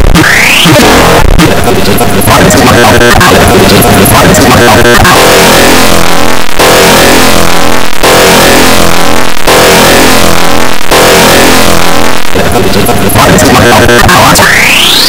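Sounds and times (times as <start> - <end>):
distorted repeating sound loop: 0.0 - 15.0.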